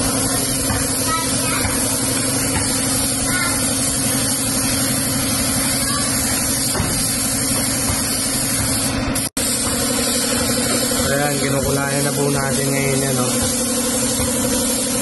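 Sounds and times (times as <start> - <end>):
paint spray gun hissing: 0.0 - 15.0.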